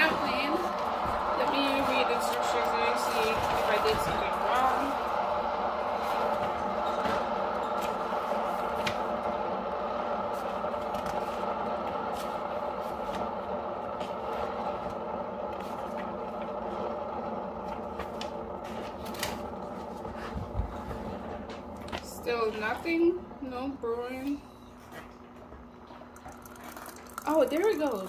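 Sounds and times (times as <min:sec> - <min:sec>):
coffee maker humming: 0:00.0 - 0:28.0.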